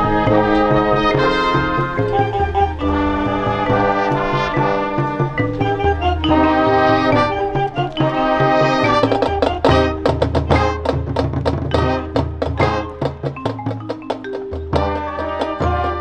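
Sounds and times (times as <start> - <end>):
marching band playing: 0.0 - 16.0
sharp percussion strikes: 0.0 - 16.0.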